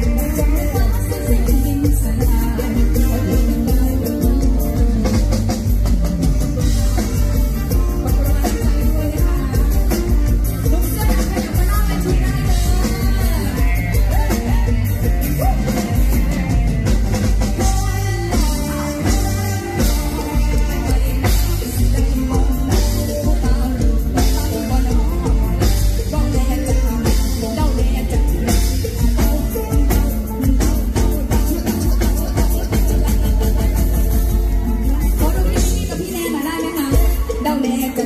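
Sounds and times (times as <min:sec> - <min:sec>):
drum kit: 0:00.0 - 0:38.0
guitar: 0:00.0 - 0:38.0
woman singing into a microphone: 0:00.0 - 0:38.0.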